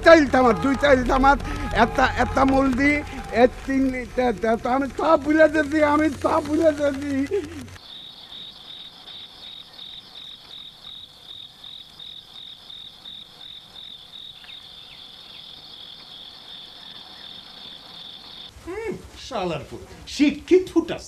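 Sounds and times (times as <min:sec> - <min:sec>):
crickets chirping: 0:00.0 - 0:19.4.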